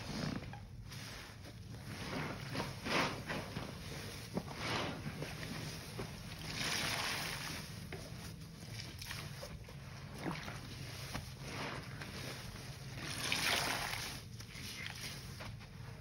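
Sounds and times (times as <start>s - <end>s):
sponge squishing and water sloshing: 0.0s - 16.0s.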